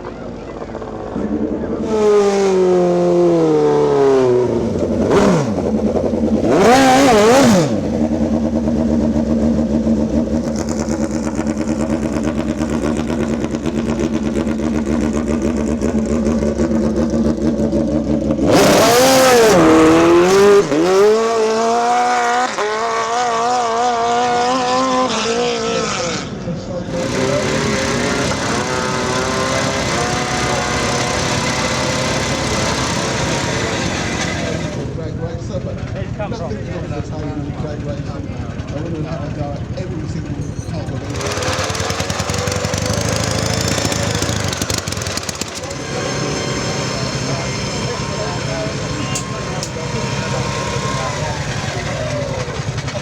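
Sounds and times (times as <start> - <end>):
motorcycle engine revving and idling: 0.0 - 53.0.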